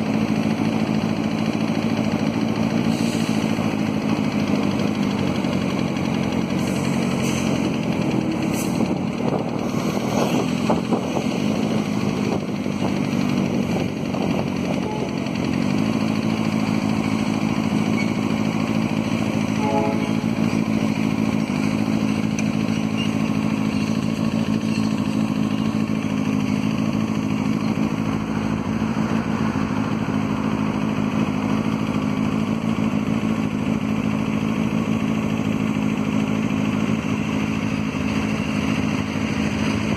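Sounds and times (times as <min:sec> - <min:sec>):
locomotive diesel engine running: 0:00.0 - 0:39.9.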